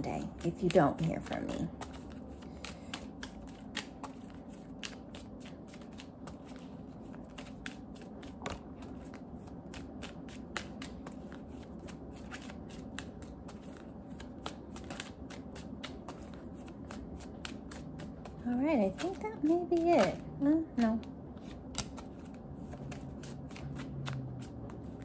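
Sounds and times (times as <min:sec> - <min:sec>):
cards being shuffled: 0:00.0 - 0:25.0.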